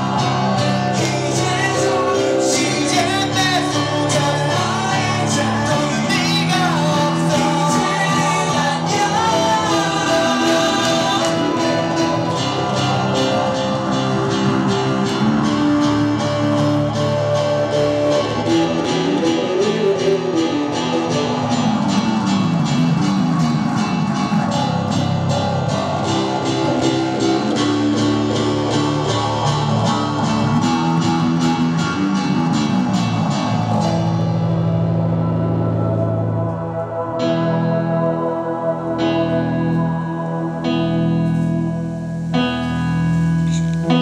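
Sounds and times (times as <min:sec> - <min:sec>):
electric bass: 0:00.0 - 0:44.0
keyboard: 0:00.0 - 0:44.0.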